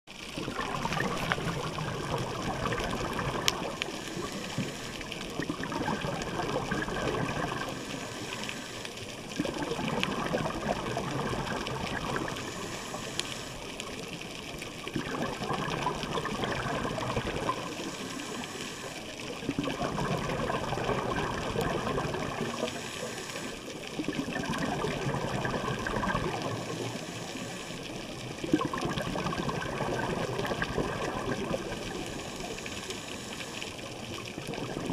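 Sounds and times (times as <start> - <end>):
underwater regulator bubbles gurgling: 0.1 - 34.9.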